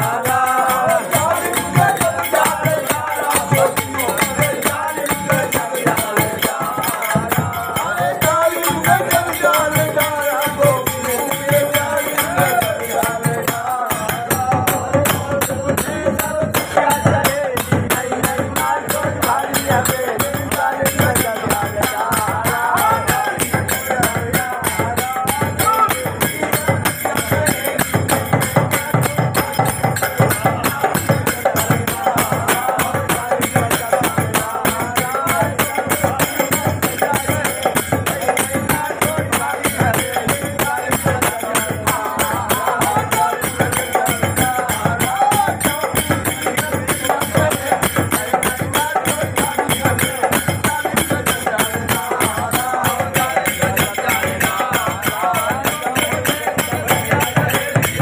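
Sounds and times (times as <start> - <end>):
barrel drum beat: 0.0 - 58.0
men singing folk song: 0.0 - 58.0.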